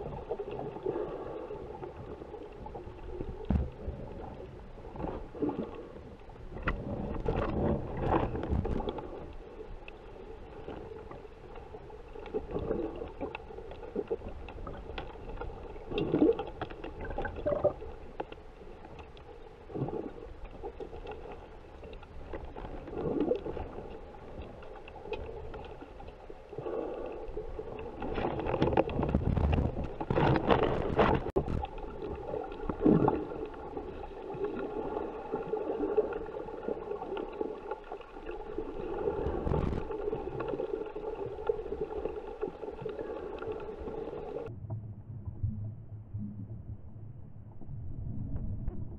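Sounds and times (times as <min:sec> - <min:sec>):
underwater sloshing and gurgling: 0:00.0 - 0:48.9.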